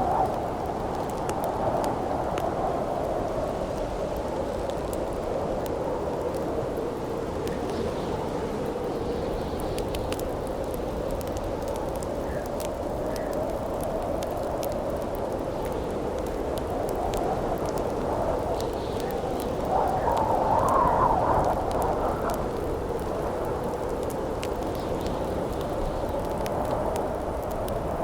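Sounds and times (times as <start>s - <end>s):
campfire crackling: 0.0s - 28.0s
howling wind: 0.0s - 28.0s.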